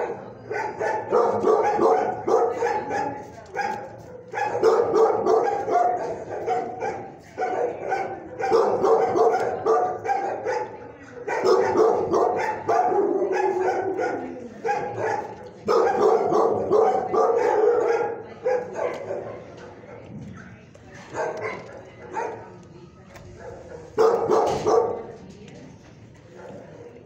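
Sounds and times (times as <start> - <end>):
dogs barking: 0.0 - 20.1, 21.1 - 22.6, 23.3 - 25.2.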